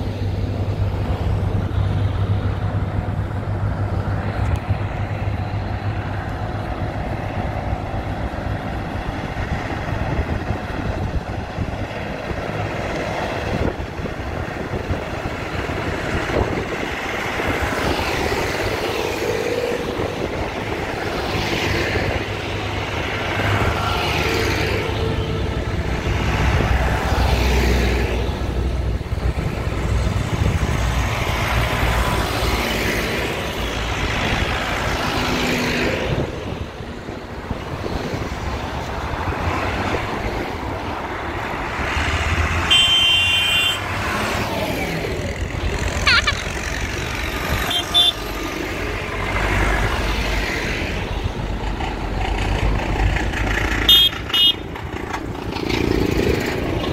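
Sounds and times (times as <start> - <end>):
tractors and cars driving past: 0.0 - 56.9.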